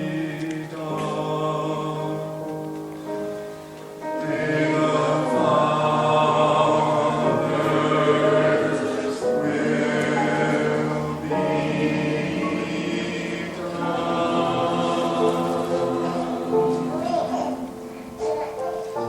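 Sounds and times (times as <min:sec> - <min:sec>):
choir singing sustained chords: 0:00.0 - 0:18.3
musical accompaniment: 0:00.0 - 0:19.0.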